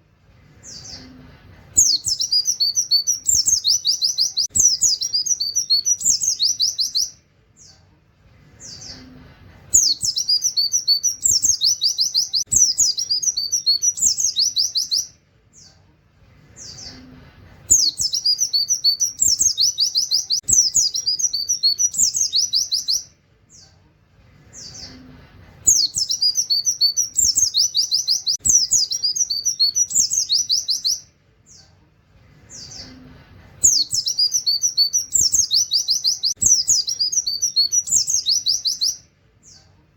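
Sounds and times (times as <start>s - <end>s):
bird twittering song: 1.8s - 7.9s, 8.6s - 15.8s, 17.7s - 23.8s, 24.5s - 31.8s, 32.4s - 39.7s.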